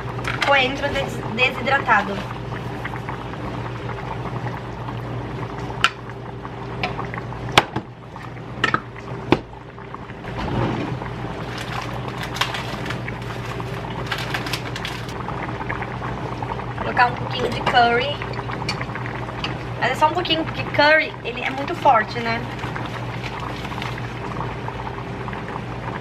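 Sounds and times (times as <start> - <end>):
pot bubbling on stove: 0.0 - 26.0
steady low hum: 0.0 - 26.0.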